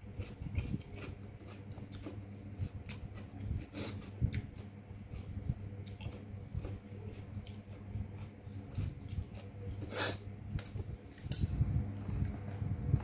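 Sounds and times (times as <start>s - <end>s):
steady low hum: 0.0s - 13.0s
person chewing: 0.1s - 11.3s, 12.0s - 13.0s.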